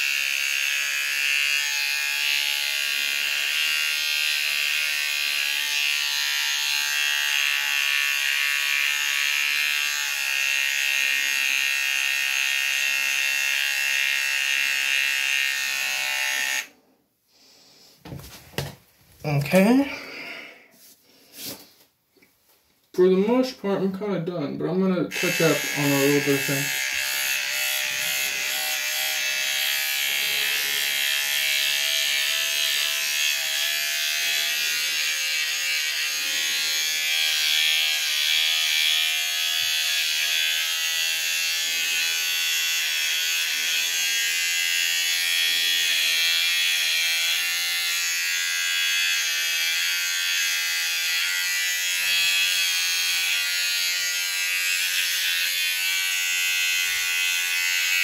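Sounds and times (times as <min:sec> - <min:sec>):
electric shaver buzzing: 0:00.0 - 0:16.8, 0:24.7 - 0:58.0.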